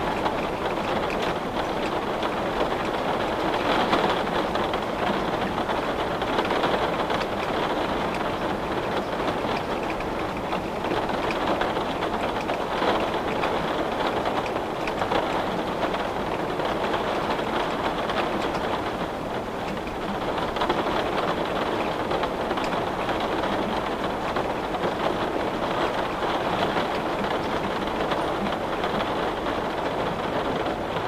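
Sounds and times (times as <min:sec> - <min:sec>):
rain on a window: 0:00.0 - 0:31.0.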